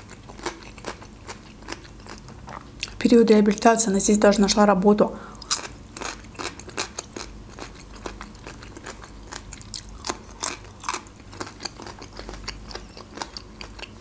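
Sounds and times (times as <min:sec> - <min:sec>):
chewing crisp vegetable: 0:00.0 - 0:03.6, 0:05.4 - 0:14.0.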